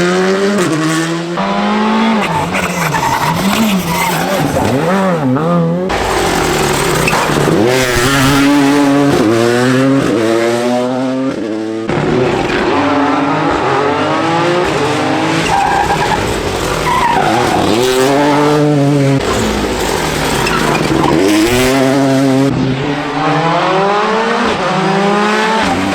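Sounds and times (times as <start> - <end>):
rally car engines revving: 0.0 - 25.9.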